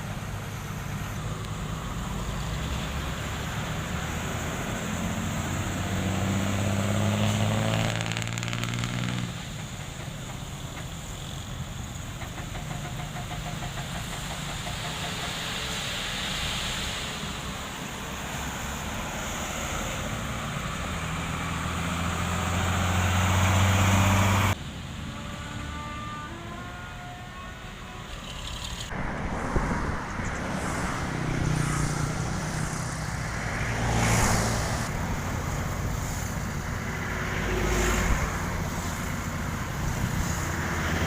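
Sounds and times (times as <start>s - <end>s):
heavy machinery diesel engines: 0.0s - 41.0s.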